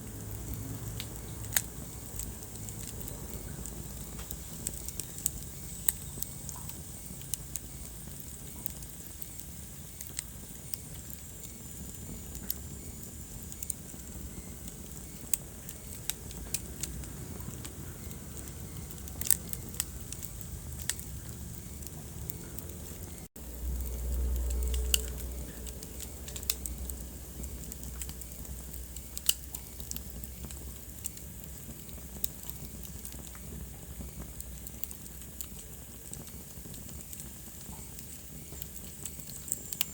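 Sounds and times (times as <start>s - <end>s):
soft steady hiss: 0.0s - 39.9s
wood fire crackling: 0.0s - 39.9s.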